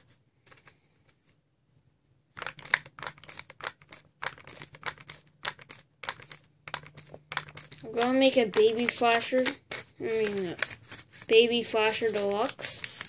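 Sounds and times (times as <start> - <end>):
paper crinkling and rustling: 2.4 - 13.0.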